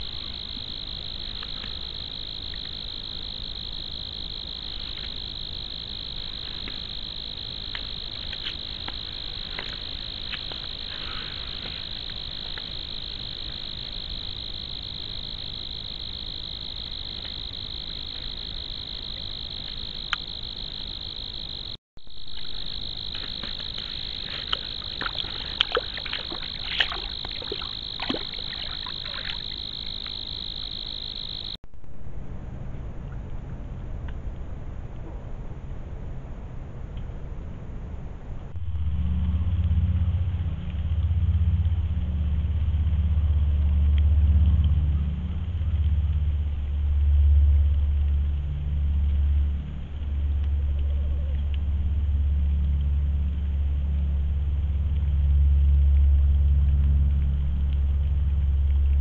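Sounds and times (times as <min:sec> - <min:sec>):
night insects trilling: 0:00.0 - 0:31.6, 0:38.6 - 0:59.0.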